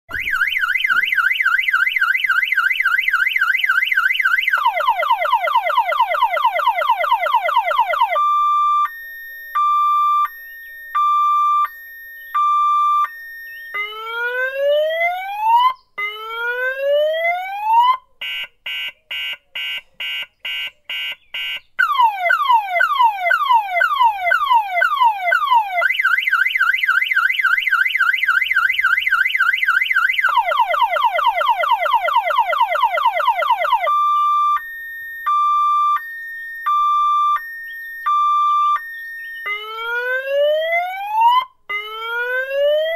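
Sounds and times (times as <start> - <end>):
car alarm siren: 0.1 - 42.9.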